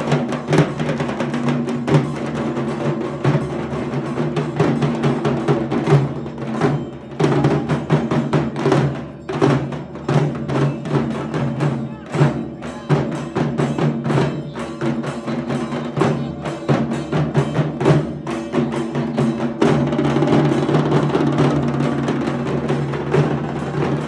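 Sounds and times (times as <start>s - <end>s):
barrel drums beating fast rhythm: 0.0s - 24.0s.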